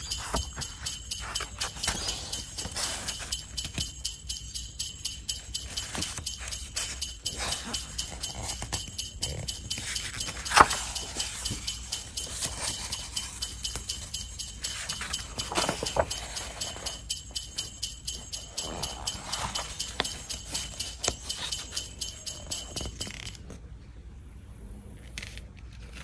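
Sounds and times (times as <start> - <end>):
sleigh bells jingling: 0.0 - 23.4.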